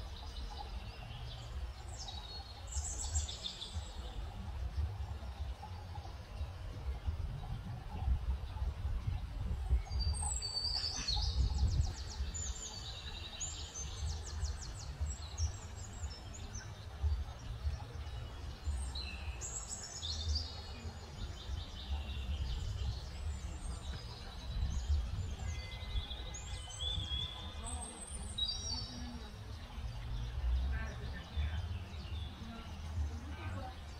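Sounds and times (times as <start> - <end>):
songbirds chirping and trilling: 0.0 - 33.9.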